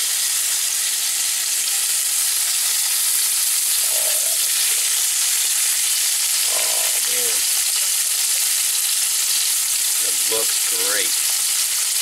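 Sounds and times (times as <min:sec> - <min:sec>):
fish frying in butter: 0:00.0 - 0:12.0.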